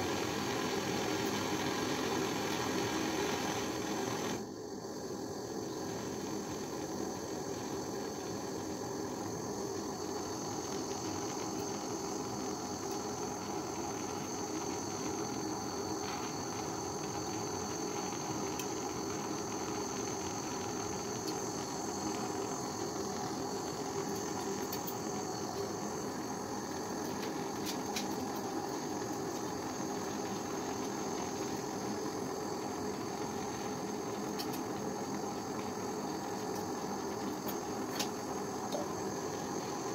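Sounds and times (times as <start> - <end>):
gas torch flame hissing: 0.0 - 39.9.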